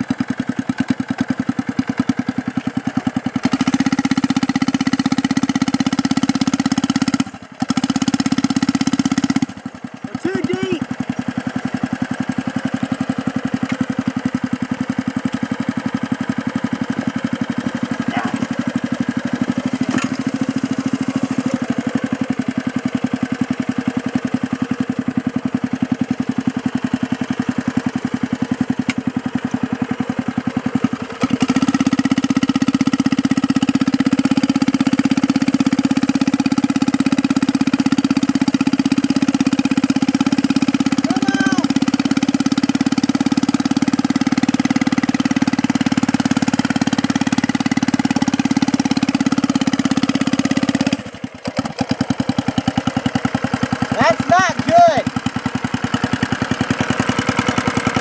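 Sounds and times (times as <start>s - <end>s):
small gasoline engine revving: 0.0s - 58.0s.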